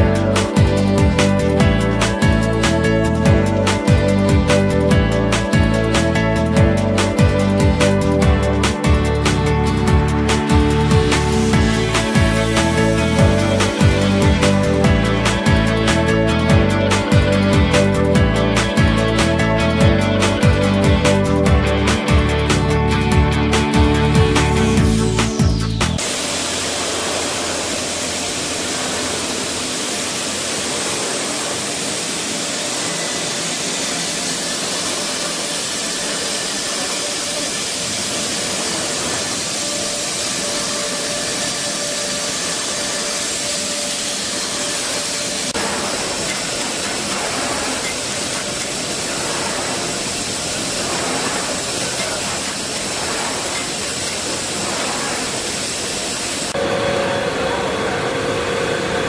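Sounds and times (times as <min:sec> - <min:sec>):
factory machinery noise: 0:00.0 - 0:59.0.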